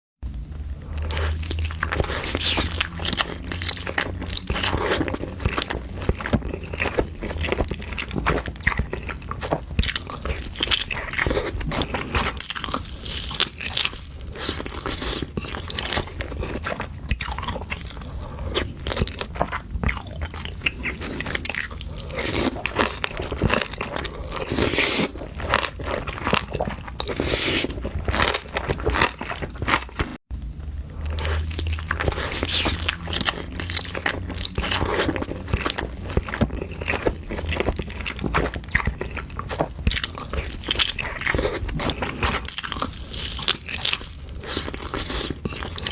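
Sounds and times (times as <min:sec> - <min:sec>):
steady low hum: 0:00.2 - 0:45.9
crunching and chewing food: 0:00.4 - 0:45.9.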